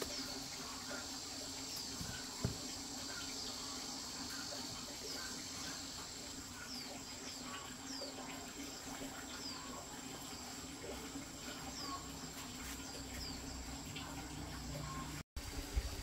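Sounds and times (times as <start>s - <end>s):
high-pitched insect chorus: 0.0s - 15.2s.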